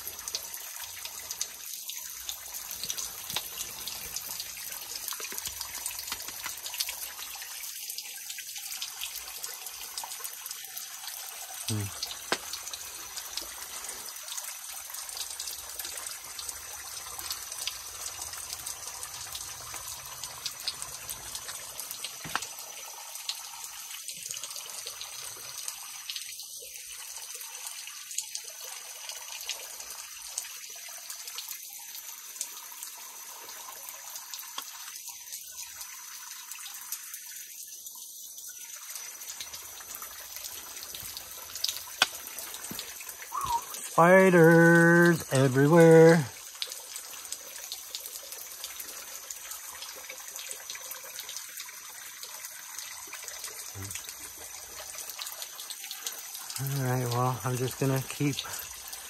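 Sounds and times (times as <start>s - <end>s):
water trickling and dripping on rock: 0.0s - 59.0s.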